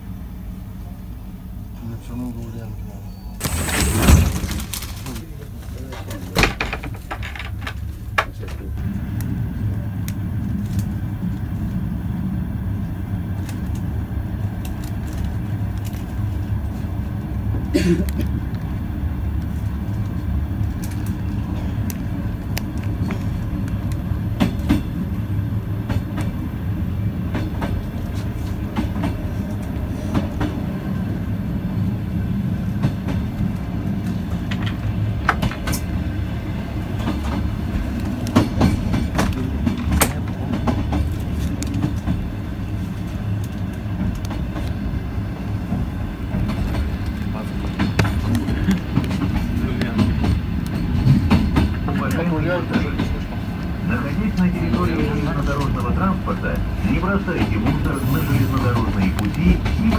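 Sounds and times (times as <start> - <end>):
electric train rumble: 0.0 - 59.9.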